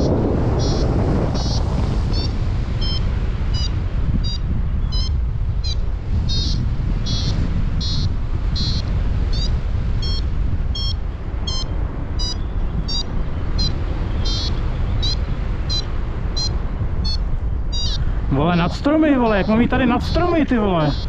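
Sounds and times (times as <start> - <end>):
variometer short high beeps: 0.0 - 18.0, 20.1 - 21.0
wind on microphone: 0.0 - 21.0.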